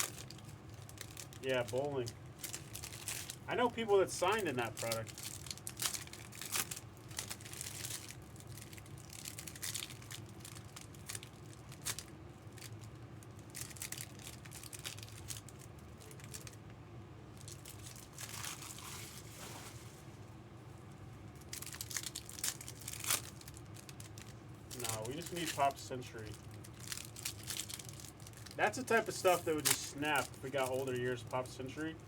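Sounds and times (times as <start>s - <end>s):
card pack wrappers tearing: 0.0s - 16.6s, 17.4s - 19.9s, 21.4s - 31.6s.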